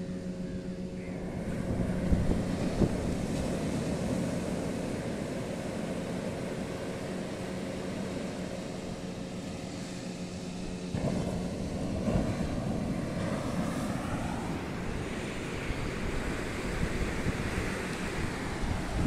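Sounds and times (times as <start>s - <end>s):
engine drone: 0.0s - 19.0s
surf washing on shore: 0.0s - 19.0s
waves breaking: 0.0s - 19.0s.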